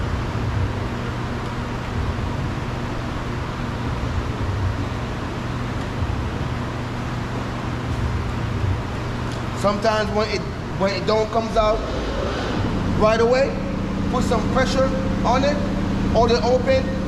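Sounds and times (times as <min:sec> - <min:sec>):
steady hum with low rumble: 0:00.0 - 0:17.0.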